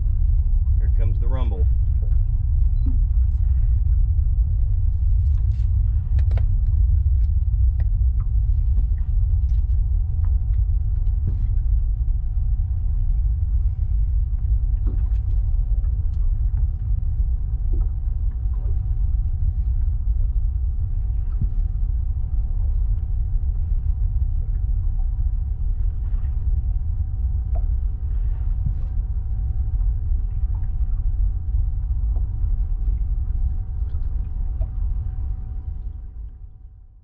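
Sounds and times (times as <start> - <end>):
distant rocket engine rumble: 0.0 - 37.0.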